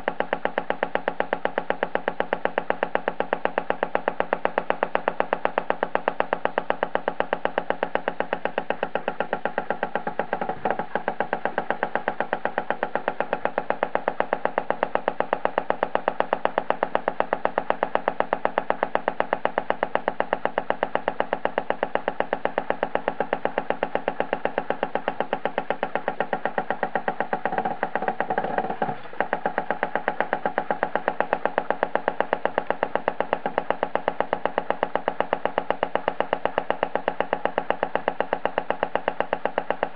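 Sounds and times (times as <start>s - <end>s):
rapid even ticking: 0.0s - 39.9s
steady hum: 0.0s - 39.9s.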